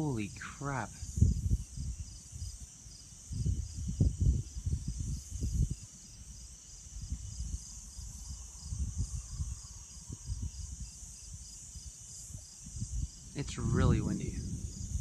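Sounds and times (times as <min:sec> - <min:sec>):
crickets chirping: 0:00.0 - 0:15.0
wind buffeting microphone: 0:00.0 - 0:15.0.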